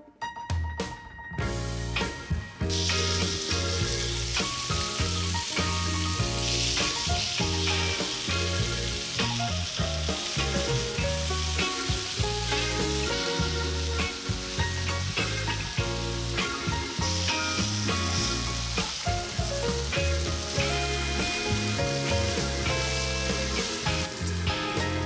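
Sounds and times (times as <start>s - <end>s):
background music: 0.0s - 25.0s
meat sizzling in a frying pan: 1.9s - 25.0s.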